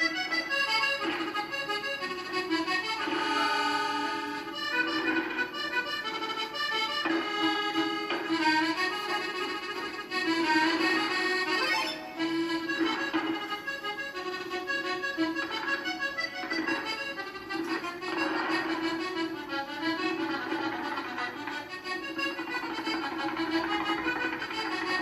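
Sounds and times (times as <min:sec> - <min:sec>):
accordion music: 0:00.0 - 0:25.0.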